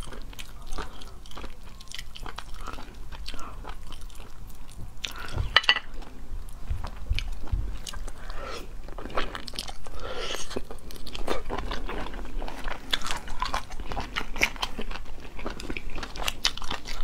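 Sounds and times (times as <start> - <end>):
chewing and biting: 0.0 - 5.4, 6.8 - 17.0.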